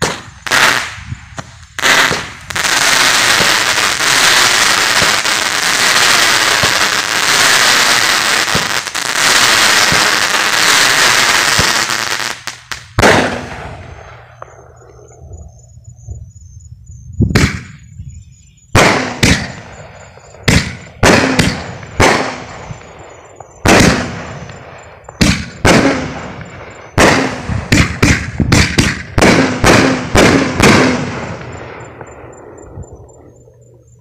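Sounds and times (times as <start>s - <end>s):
fireworks banging with echo: 0.0s - 15.2s, 17.3s - 17.8s, 18.7s - 33.4s.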